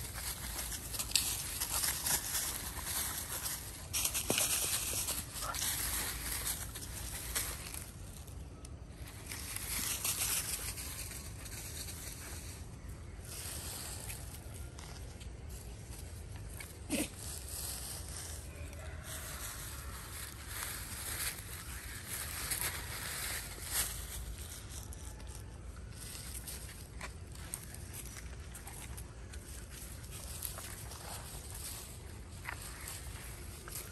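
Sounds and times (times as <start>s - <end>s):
dry leaves rustling and crackling: 0.0s - 33.9s
scuffling on dirt: 0.0s - 33.9s.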